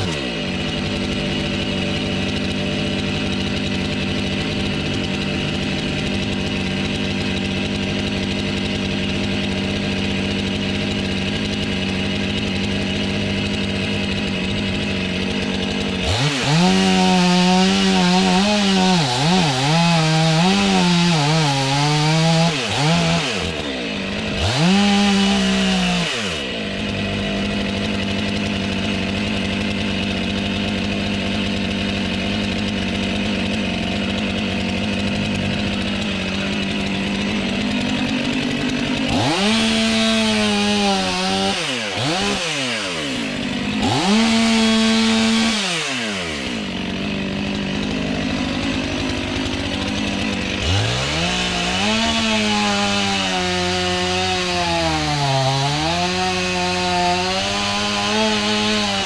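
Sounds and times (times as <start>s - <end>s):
chainsaw cutting wood: 0.0s - 59.0s
chainsaw running: 0.0s - 59.0s.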